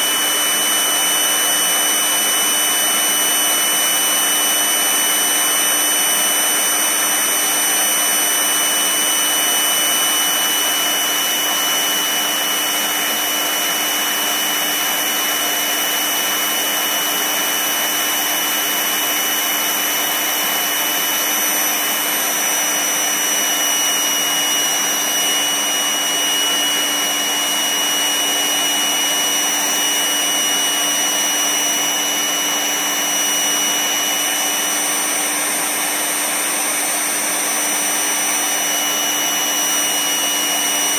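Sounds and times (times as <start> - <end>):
electric air pump whirring: 0.0 - 40.9.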